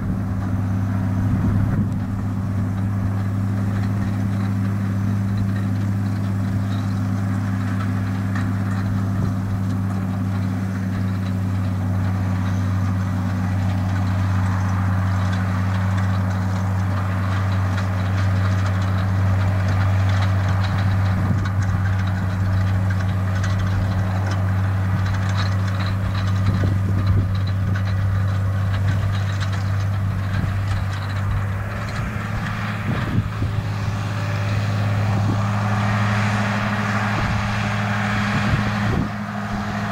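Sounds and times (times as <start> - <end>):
tractor diesel engine under load: 0.0 - 39.9
wagon pickup rattling and clatter: 0.0 - 39.9.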